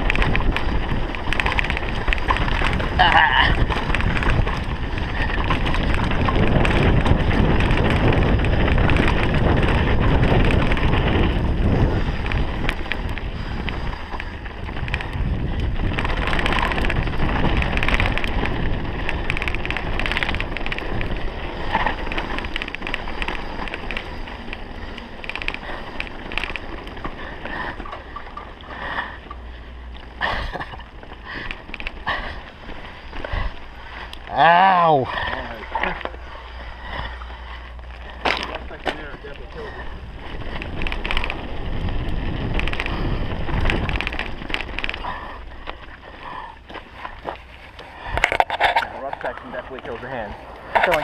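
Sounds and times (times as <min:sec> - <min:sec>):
bike rattling over rough ground: 0:00.0 - 0:51.0
wind buffeting microphone: 0:00.0 - 0:51.0.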